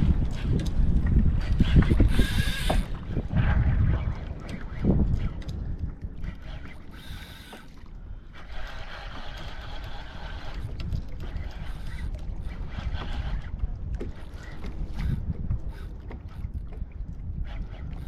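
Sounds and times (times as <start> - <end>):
water splashing against kayak hull: 0.0 - 18.0
wind rumble on microphone: 0.0 - 18.0.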